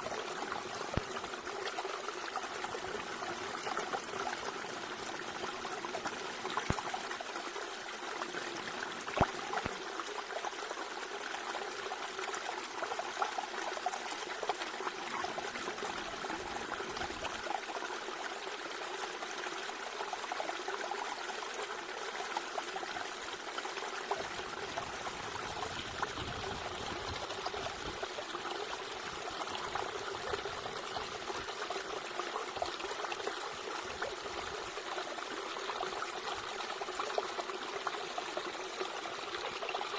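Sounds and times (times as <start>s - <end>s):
water trickling over stones: 0.0s - 39.9s.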